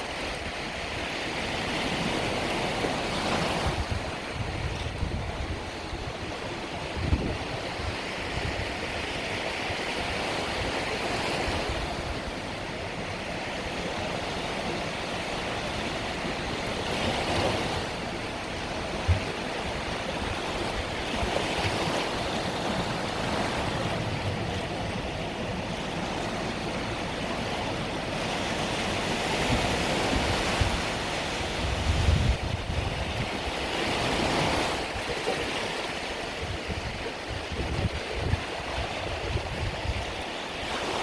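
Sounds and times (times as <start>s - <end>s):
small waves breaking on shore: 0.0s - 41.0s
wind buffeting microphone: 0.0s - 41.0s.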